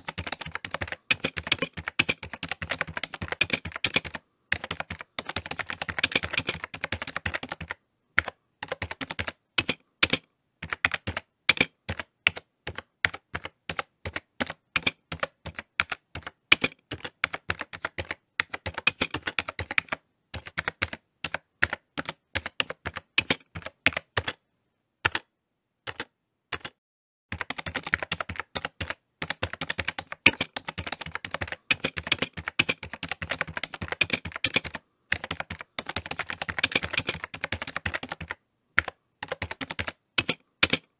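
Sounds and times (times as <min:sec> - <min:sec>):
rapid irregular clicking: 0:00.0 - 0:24.4, 0:26.6 - 0:40.9.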